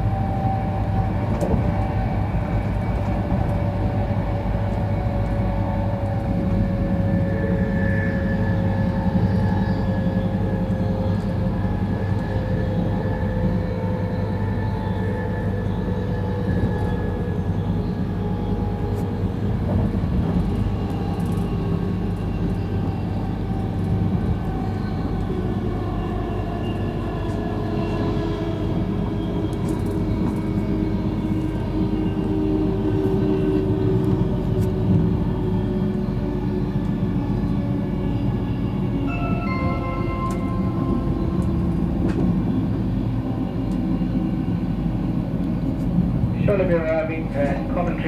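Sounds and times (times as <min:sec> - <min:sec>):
steady humming tones: 0:00.0 - 0:48.0
train wheels rumbling on rail: 0:00.0 - 0:48.0.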